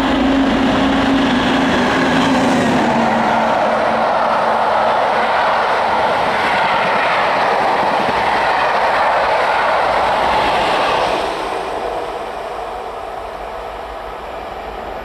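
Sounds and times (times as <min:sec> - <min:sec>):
diesel locomotive passing: 0:00.0 - 0:15.0
train wheels rumbling on rails: 0:00.0 - 0:15.0.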